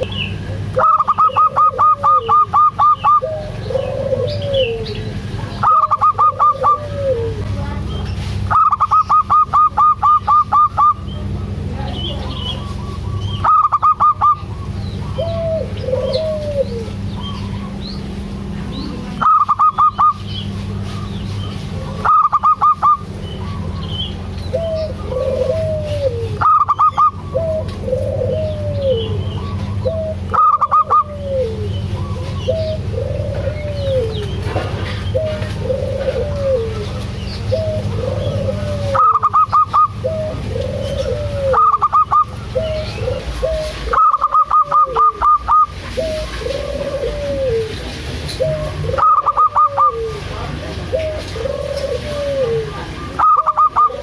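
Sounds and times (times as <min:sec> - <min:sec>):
dove cooing: 0:00.0 - 0:54.0
steady low hum: 0:00.0 - 0:54.0.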